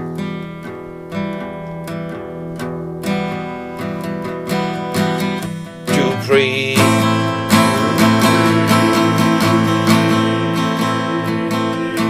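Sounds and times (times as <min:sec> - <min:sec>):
rock guitar strummed chords: 0:00.0 - 0:12.0.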